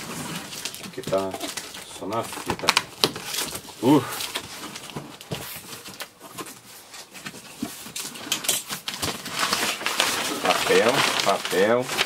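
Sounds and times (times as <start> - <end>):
cardboard and packing tape crackles: 0.0 - 12.0
cardboard flaps rustling and scraping: 0.0 - 12.0.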